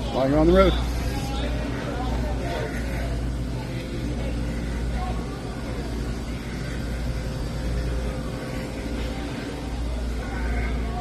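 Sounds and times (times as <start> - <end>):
faint voices: 0.0 - 11.0
low rumble of store background: 0.0 - 11.0.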